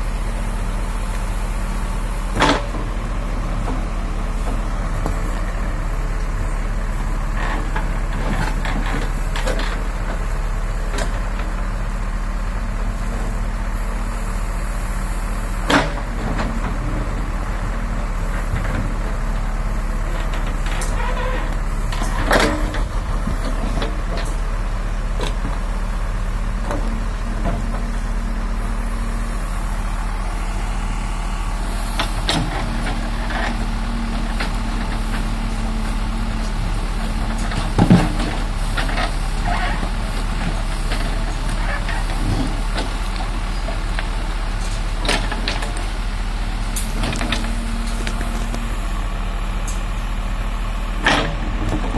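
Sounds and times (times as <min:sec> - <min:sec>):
diesel engine under load: 0:00.0 - 0:51.9.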